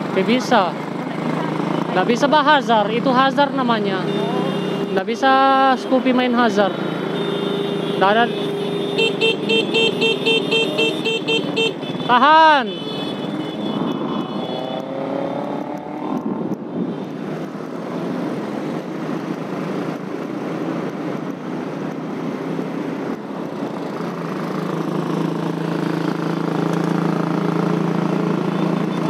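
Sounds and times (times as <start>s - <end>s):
motorcycle engine: 0.0s - 29.0s
wind and road rush: 0.0s - 29.0s.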